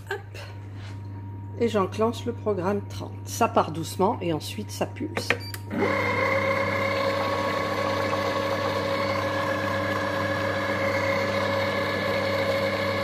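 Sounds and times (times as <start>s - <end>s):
motor humming with whine: 0.0s - 13.0s.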